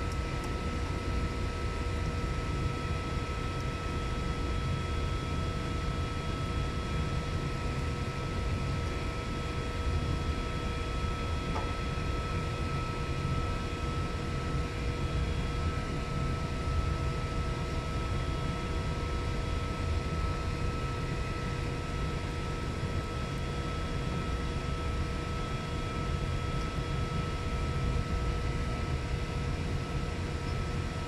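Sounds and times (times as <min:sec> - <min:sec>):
running machinery drone: 0:00.0 - 0:31.0.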